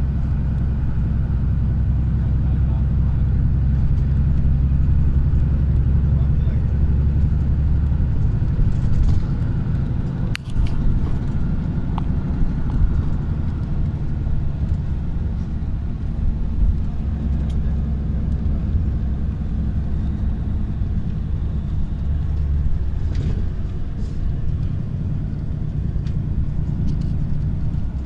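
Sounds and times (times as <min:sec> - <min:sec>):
road vehicle rumble: 0:00.0 - 0:28.0.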